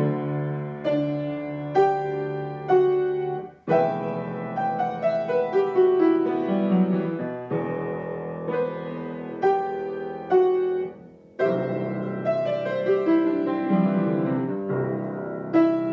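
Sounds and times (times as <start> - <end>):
solo piano playing: 0.0 - 15.9.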